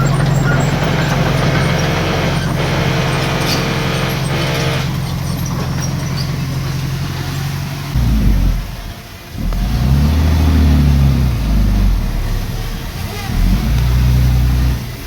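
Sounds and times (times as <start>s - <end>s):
heavy diesel engine revving: 0.0s - 15.0s.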